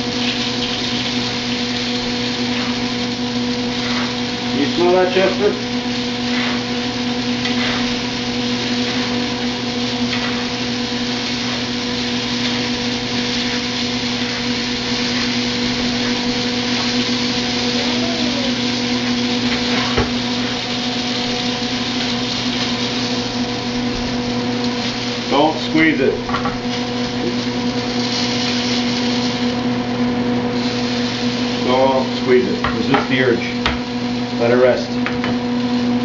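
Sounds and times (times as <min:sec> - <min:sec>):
range hood fan humming: 0:00.0 - 0:36.0.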